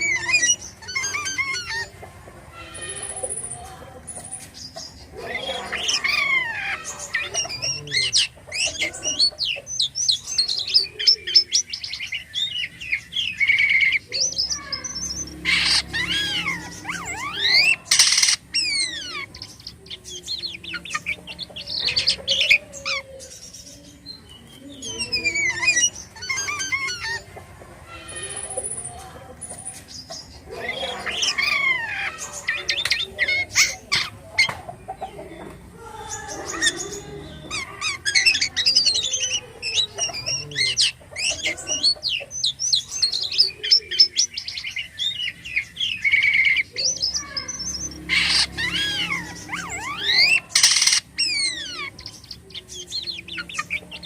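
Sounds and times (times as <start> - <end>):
bird rasping calls: 0.0 - 24.0, 24.6 - 54.0
starling singing: 0.0 - 54.0.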